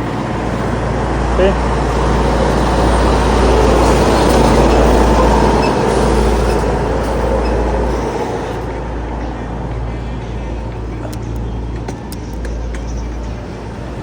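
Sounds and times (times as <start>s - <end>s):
truck engine hum: 0.0s - 14.0s.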